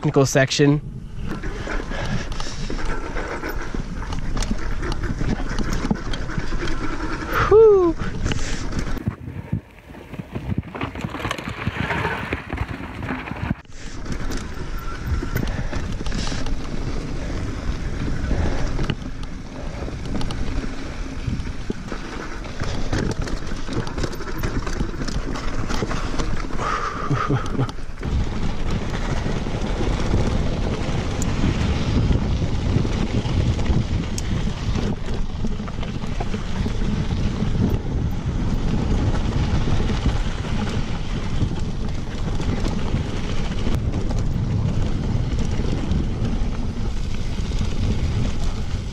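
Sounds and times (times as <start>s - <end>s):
bike tyre noise on dirt: 0.0s - 48.9s
wind buffeting microphone: 0.0s - 48.9s
bike rattles and knocks: 1.1s - 48.9s.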